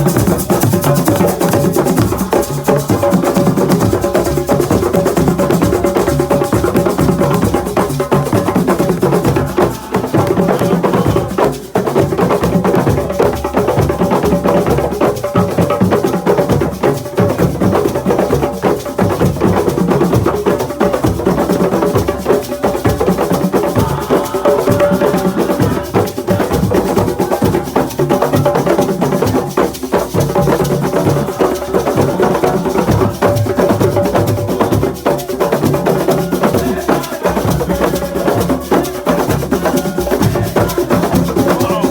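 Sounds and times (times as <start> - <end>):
hand drums: 0.0 - 41.9
percussion playing dense rhythm: 0.0 - 41.9.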